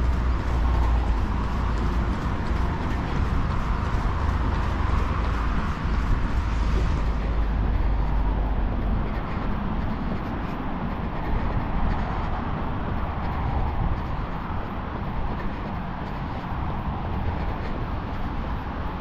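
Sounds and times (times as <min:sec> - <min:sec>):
road traffic: 0:00.0 - 0:19.0
wind rumble on microphone: 0:00.0 - 0:19.0.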